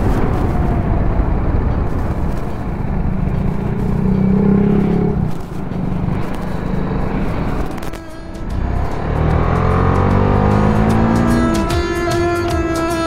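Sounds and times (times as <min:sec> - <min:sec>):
motorcycle engine riding: 0:00.0 - 0:13.0
wind rush on microphone: 0:00.0 - 0:13.0.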